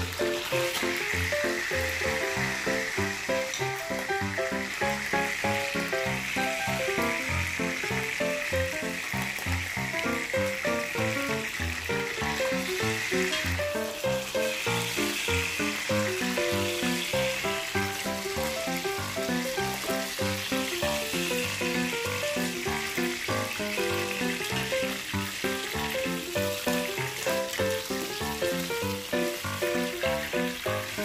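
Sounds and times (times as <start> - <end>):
fish frying in hot oil: 0.0 - 31.0.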